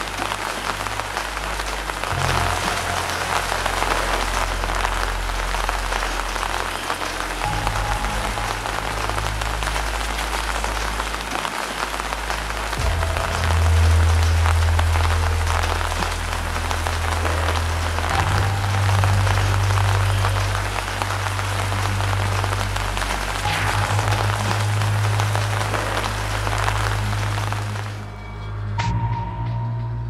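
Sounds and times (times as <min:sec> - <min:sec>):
rain falling on paving: 0:00.0 - 0:28.2
low musical drone: 0:00.0 - 0:30.0.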